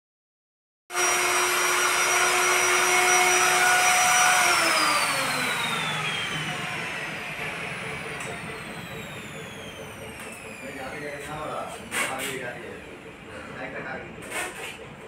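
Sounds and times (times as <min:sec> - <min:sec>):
machine motor whining: 0:00.9 - 0:14.8.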